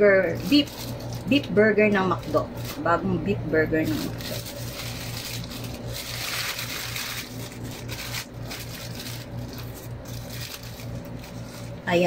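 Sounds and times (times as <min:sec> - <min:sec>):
paper wrapper crinkling: 0:00.2 - 0:03.1, 0:03.7 - 0:12.0.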